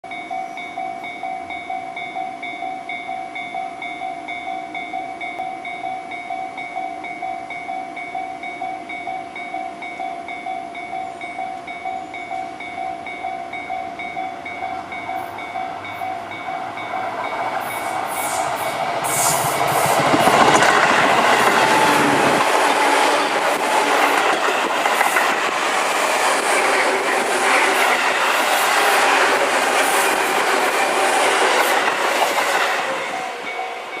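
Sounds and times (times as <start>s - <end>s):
electric train passing: 0.1s - 34.0s
level crossing alarm ringing: 0.1s - 34.0s.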